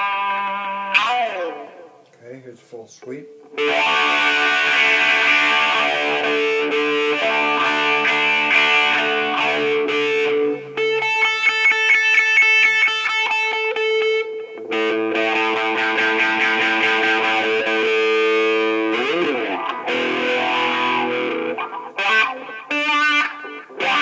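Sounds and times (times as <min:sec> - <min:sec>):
distorted electric guitar with wah: 0:00.0 - 0:02.0, 0:03.4 - 0:24.0.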